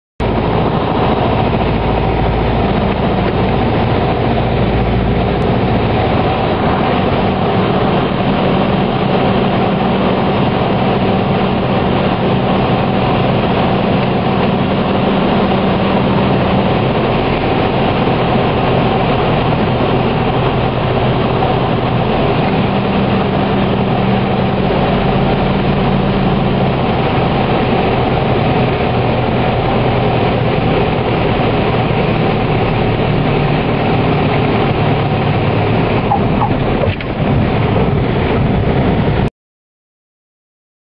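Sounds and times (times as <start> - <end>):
aircraft engine drone: 0.2 - 39.3
rushing air in cabin: 0.2 - 39.3.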